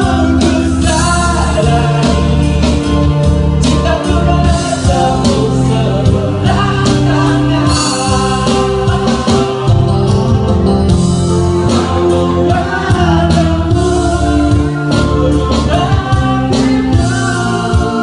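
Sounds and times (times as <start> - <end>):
man singing into microphone: 0.0 - 10.0, 11.6 - 18.0
electronic keyboard chords: 0.0 - 18.0.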